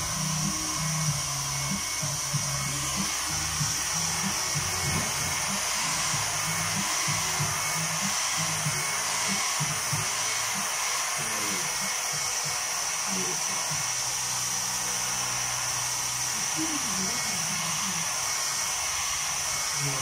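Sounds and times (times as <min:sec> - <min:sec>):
hair dryer blowing: 0:00.0 - 0:20.0.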